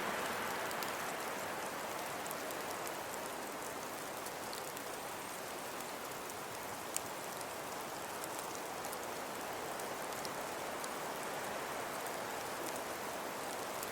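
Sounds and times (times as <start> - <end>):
snowfall hiss: 0.0 - 13.9.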